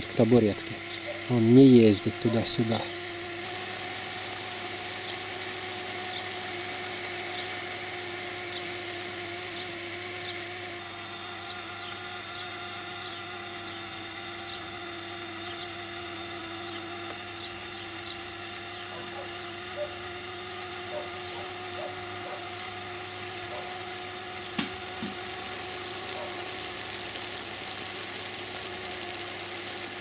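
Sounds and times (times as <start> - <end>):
sprinkler water jets hissing: 0.0 - 12.6, 17.0 - 30.0
mechanical hum: 0.0 - 30.0.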